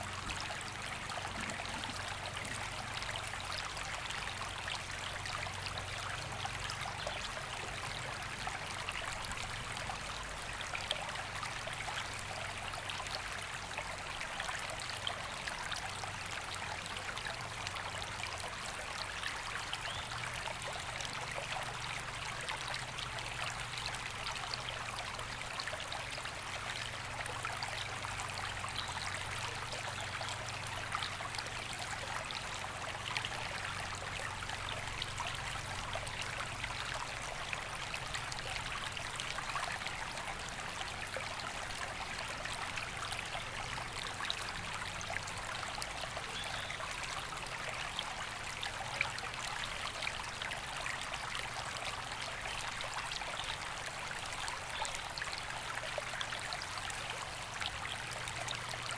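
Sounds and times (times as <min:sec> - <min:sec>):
river flowing over stones: 0:00.0 - 0:58.9.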